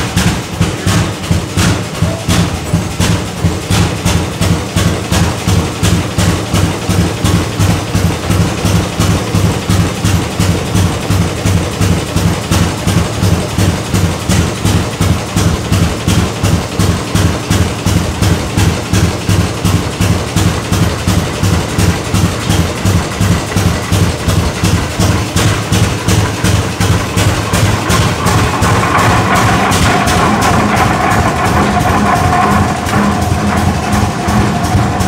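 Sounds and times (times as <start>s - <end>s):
tractor engine idling: 0.0s - 35.0s.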